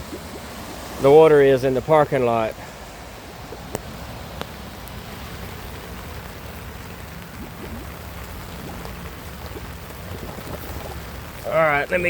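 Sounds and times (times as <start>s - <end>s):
rain falling on water: 0.0s - 12.0s
water drops ticking: 0.0s - 12.0s.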